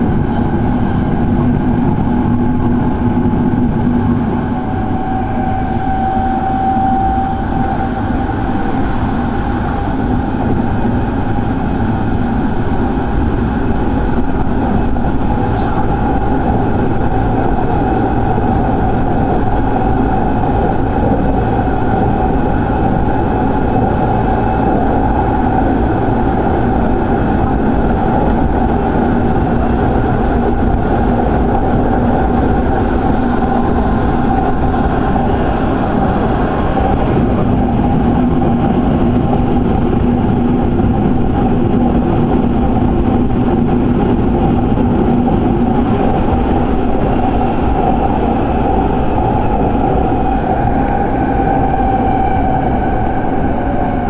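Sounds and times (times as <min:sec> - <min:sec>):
constant train tones: 0:00.0 - 0:54.0
train wheels rumbling on rail: 0:00.0 - 0:54.0.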